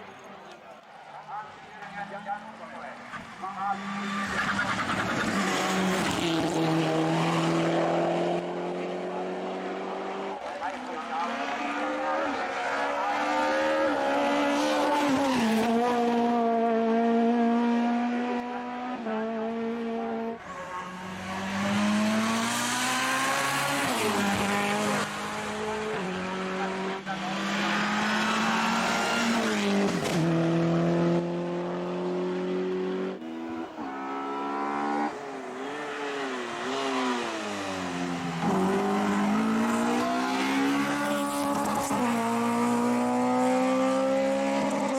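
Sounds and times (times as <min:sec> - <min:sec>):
race car engine with gear changes: 0:00.0 - 0:44.9.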